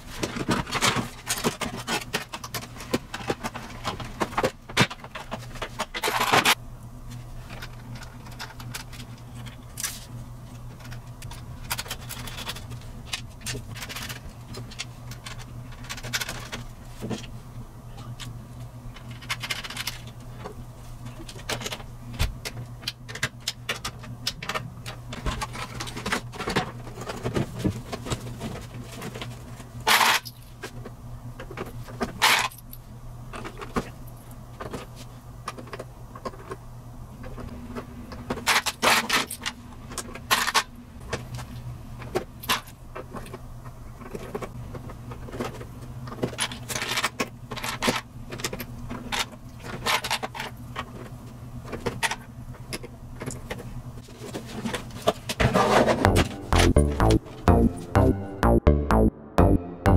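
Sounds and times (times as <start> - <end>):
clicks and rattles of parts: 0.1 - 6.6, 7.4 - 17.3, 18.2 - 32.7, 37.2 - 55.5.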